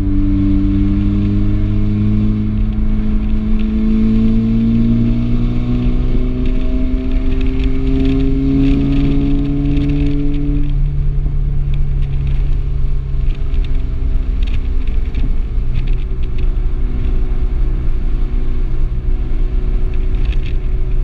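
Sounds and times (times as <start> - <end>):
car engine drone: 0.0 - 21.0
road and tyre rumble: 0.0 - 21.0.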